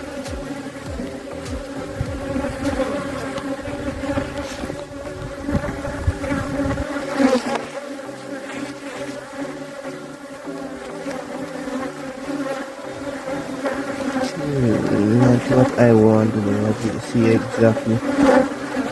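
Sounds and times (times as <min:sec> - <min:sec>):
bees buzzing: 0:00.0 - 0:18.9.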